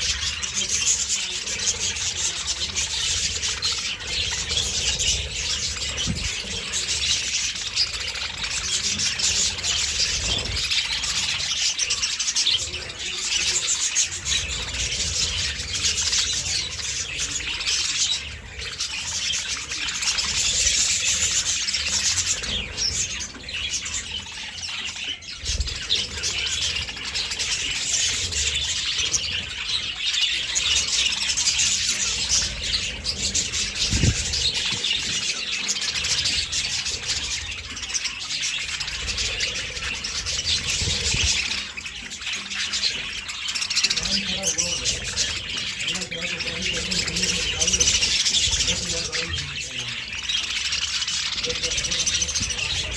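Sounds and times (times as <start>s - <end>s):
budgerigars chattering and squawking: 0.0s - 52.9s.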